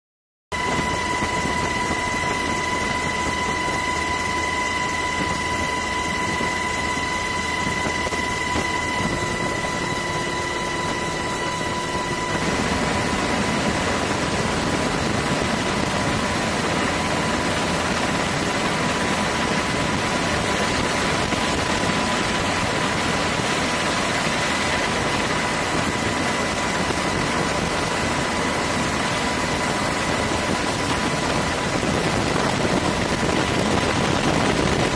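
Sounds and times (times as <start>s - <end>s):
aircraft engine noise: 0.5s - 34.9s
high engine whine: 0.5s - 34.9s.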